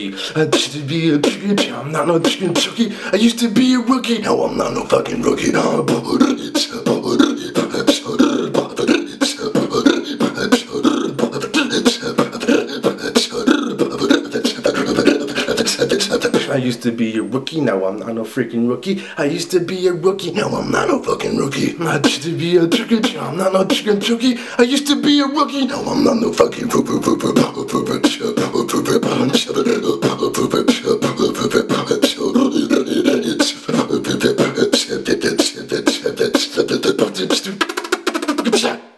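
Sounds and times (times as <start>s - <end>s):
beatboxing: 0.0s - 16.8s, 19.9s - 38.9s.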